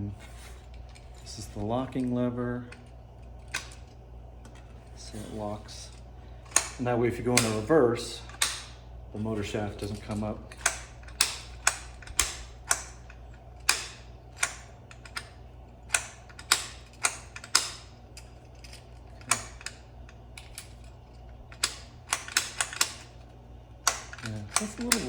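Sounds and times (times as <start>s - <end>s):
bracket and lever clicking: 2.0s - 4.7s, 5.9s - 8.8s, 9.8s - 23.2s, 23.8s - 25.0s.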